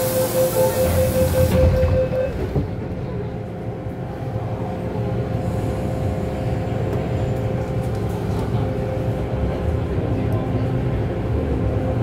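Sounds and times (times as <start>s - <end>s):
wheels rumbling on track: 0.0s - 12.0s.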